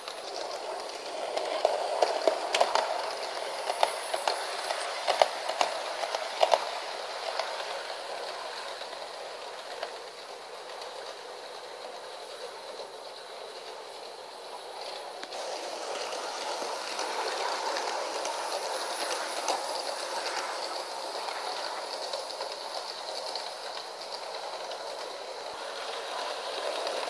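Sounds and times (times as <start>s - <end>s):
model train whirring: 0.0s - 27.0s
wheels clicking on rail joints: 0.0s - 27.0s.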